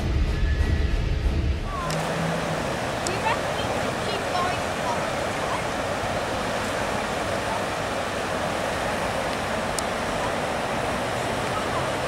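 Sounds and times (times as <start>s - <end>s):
flood water rushing: 1.7s - 12.0s.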